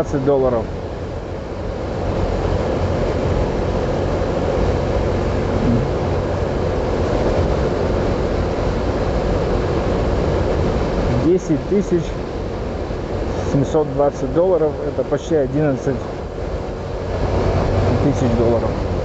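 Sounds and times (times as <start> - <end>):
motorcycle engine hum: 0.0 - 19.0
wind and road noise: 0.0 - 19.0.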